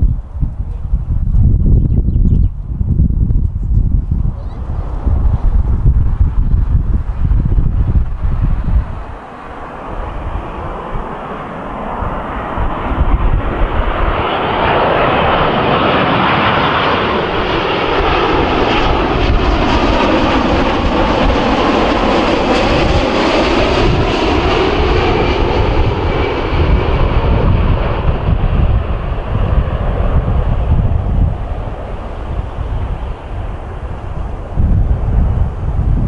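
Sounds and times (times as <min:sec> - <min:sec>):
jet aircraft passing overhead: 0:00.0 - 0:36.0.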